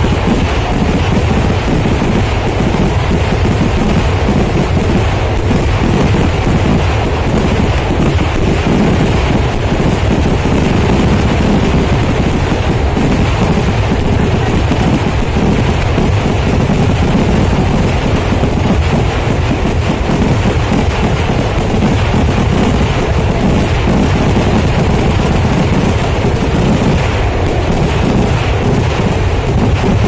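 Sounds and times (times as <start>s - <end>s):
fireworks explosions rumbling and crackling: 0.0s - 30.0s.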